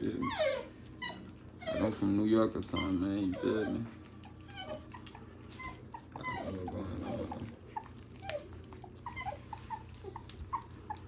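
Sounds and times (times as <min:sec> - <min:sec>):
puppies whimpering and squeaking: 0:00.0 - 0:11.0.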